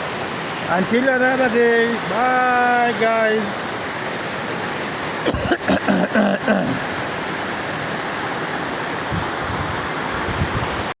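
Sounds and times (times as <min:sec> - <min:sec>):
river water flowing: 0:00.0 - 0:10.9.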